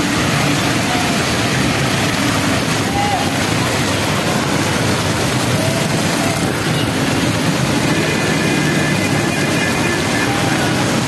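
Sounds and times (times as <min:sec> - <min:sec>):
heavy rain pouring: 0:00.0 - 0:11.0
traffic on wet street: 0:00.0 - 0:11.0.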